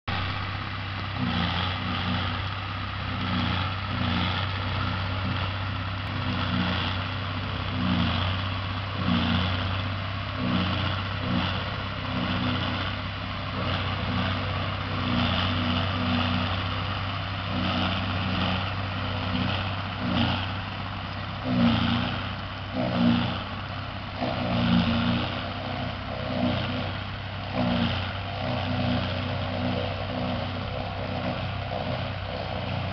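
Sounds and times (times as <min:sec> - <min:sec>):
tractor engines droning: 0:00.0 - 0:32.9
forage harvester chopping grass: 0:00.1 - 0:32.9.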